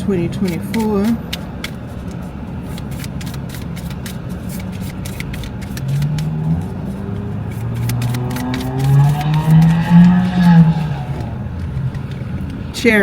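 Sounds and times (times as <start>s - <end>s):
car interior noise: 0.0s - 13.0s.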